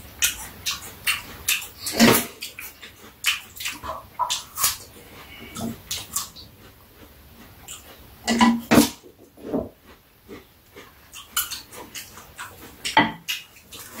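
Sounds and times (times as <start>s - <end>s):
eating smacks: 0.0s - 14.0s
food rustling: 0.0s - 14.0s.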